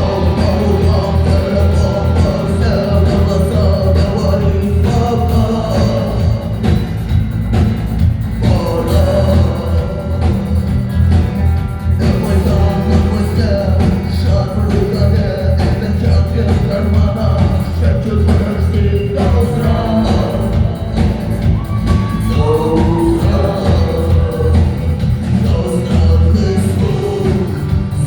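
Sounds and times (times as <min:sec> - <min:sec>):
rock band playing: 0:00.0 - 0:28.0
sung vocals: 0:00.0 - 0:28.0.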